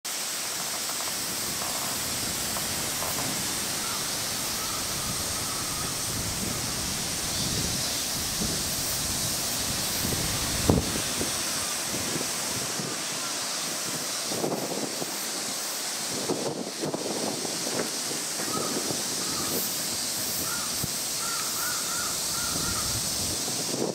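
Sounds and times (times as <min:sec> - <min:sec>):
high-pitched outdoor hiss: 0:00.0 - 0:23.9
wind rumbling on microphone: 0:00.7 - 0:23.9.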